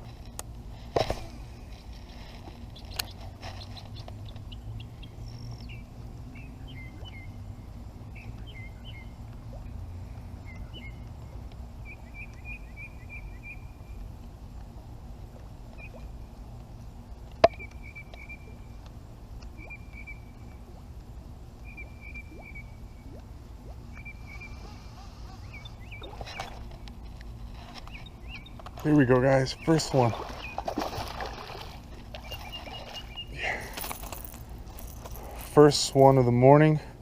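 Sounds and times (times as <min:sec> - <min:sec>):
low background rumble: 0:00.0 - 0:37.0
birds chirping and trilling: 0:01.3 - 0:14.1, 0:15.7 - 0:18.8, 0:19.4 - 0:20.7, 0:21.6 - 0:36.8.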